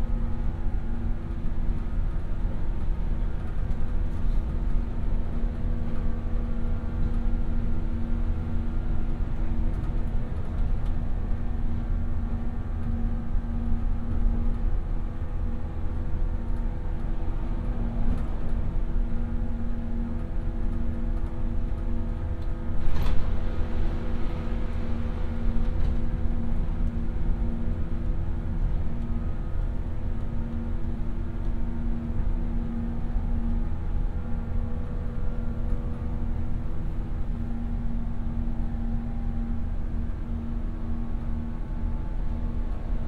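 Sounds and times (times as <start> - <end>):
wheels rumbling on rails: 0.0 - 43.0.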